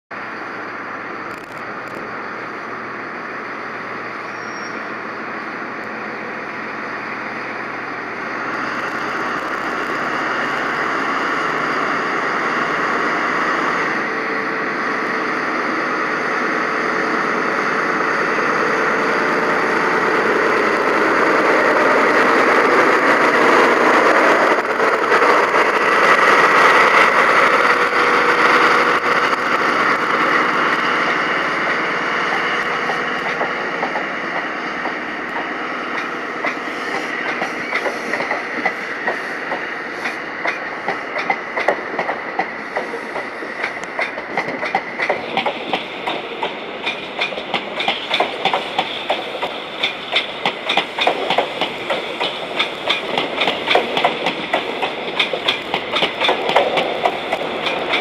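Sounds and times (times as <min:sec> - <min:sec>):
train diesel engine pulling away: 0:00.1 - 0:58.0.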